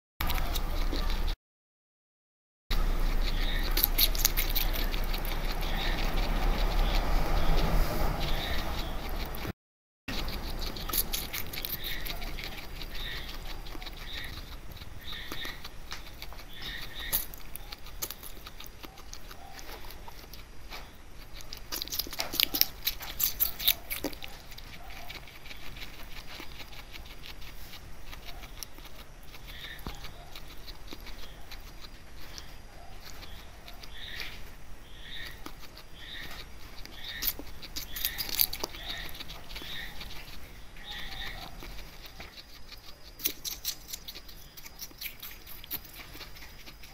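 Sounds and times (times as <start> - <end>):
guinea pig chewing crunchy food: 0.2 - 1.4, 2.7 - 46.9.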